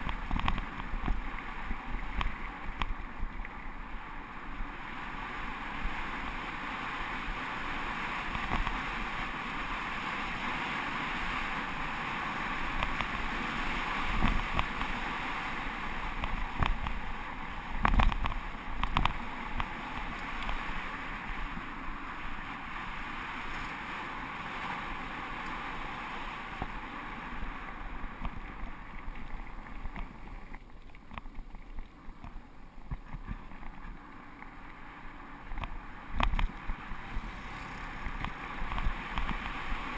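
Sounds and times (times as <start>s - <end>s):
bicycle rattling over gravel: 0.0s - 39.9s.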